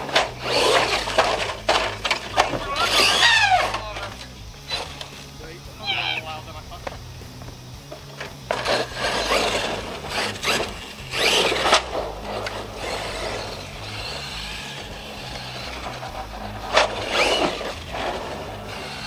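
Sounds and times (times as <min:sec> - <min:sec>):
tyres scrabbling through dirt: 0:00.0 - 0:19.0.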